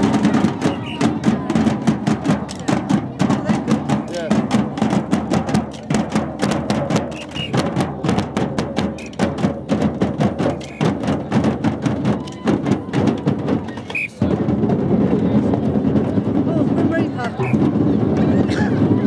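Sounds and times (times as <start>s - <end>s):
crowd hubbub with voices: 0.0s - 19.0s
marching band drums: 0.0s - 19.0s.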